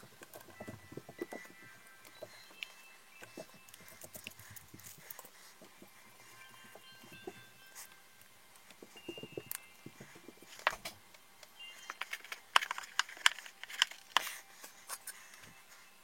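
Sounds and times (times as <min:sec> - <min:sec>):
small hard parts clicking and tapping: 0:00.0 - 0:15.8.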